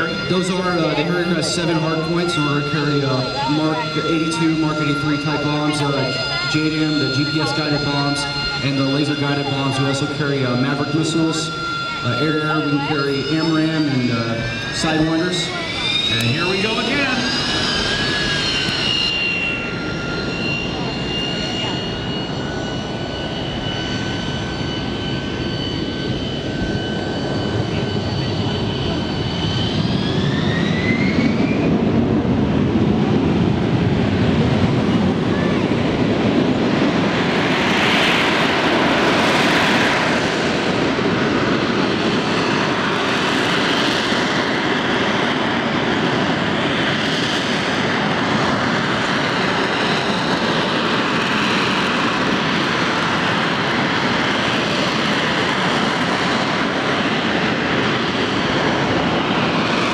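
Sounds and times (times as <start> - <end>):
jet engine whine and rush: 0.0 - 59.9.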